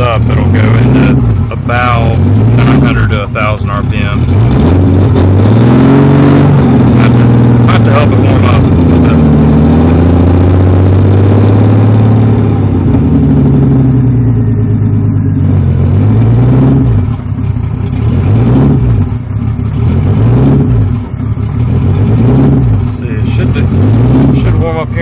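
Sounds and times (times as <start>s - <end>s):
car engine idling cold: 0.0s - 25.0s.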